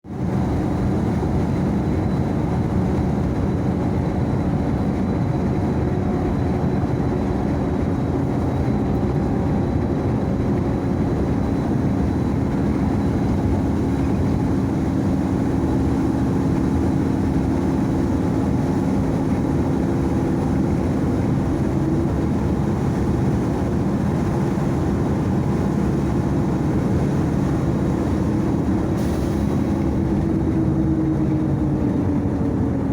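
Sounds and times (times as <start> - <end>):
motor vehicle engine running: 0.0 - 32.9.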